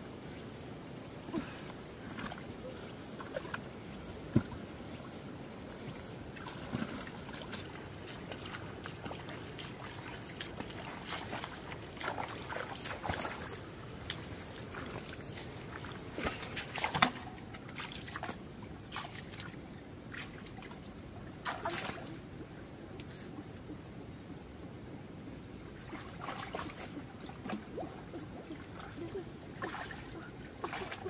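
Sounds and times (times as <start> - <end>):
water sloshing and splashing: 1.3 - 5.2, 5.8 - 23.2, 25.8 - 31.0.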